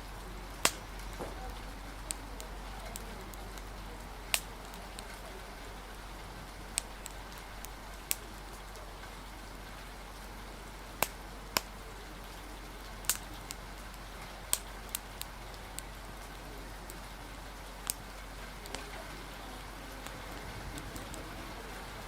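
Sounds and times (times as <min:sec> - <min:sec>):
steady rain hiss: 0:00.0 - 0:22.0
wood fire crackling: 0:00.0 - 0:22.0.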